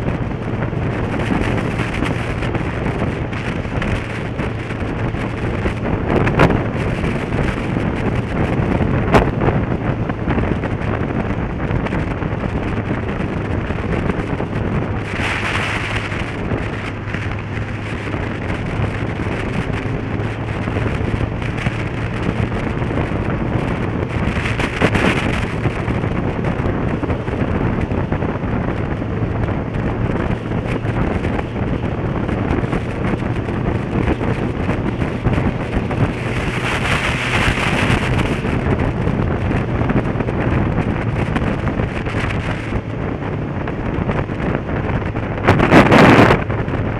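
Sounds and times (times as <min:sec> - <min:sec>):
motorcycle engine hum: 0:00.0 - 0:46.9
motorcycle road and wind noise: 0:00.0 - 0:46.9
wind on microphone: 0:00.0 - 0:46.9.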